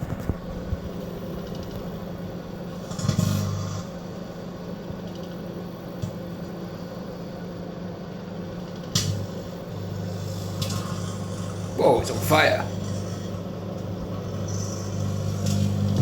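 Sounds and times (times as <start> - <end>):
light bulb arcing buzz: 0.0 - 16.0
microwave oven humming: 0.0 - 16.0.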